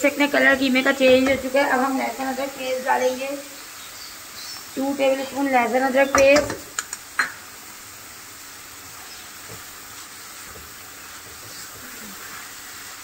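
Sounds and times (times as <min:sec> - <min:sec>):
meat and onions sizzling in a pan: 0:00.0 - 0:13.0.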